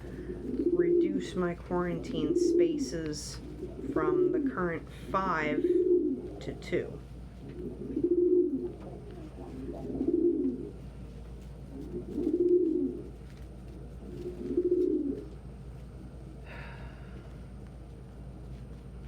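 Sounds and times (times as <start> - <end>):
pigeon cooing: 0.0 - 10.9, 11.6 - 16.1.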